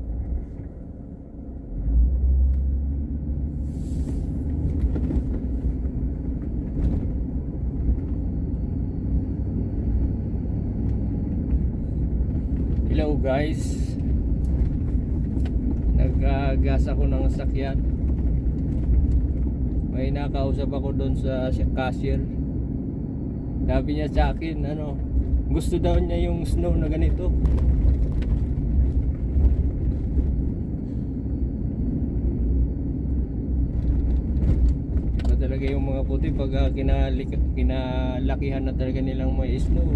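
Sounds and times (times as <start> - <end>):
car driving rumble from cabin: 0.0 - 39.9.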